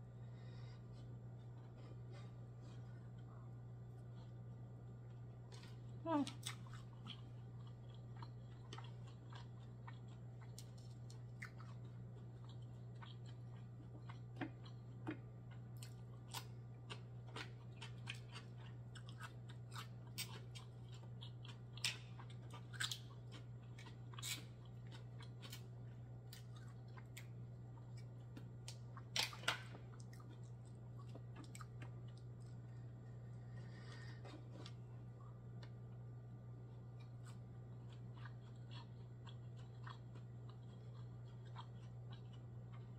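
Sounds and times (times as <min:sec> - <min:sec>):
steady low hum: 0:00.0 - 0:42.9
person chewing food: 0:00.3 - 0:42.9.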